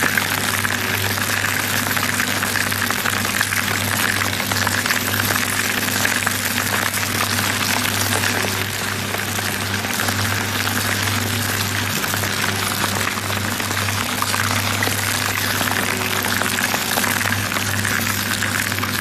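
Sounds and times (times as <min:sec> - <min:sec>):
foam crackling in shredder: 0:00.0 - 0:19.0
shredder motor humming: 0:00.0 - 0:19.0.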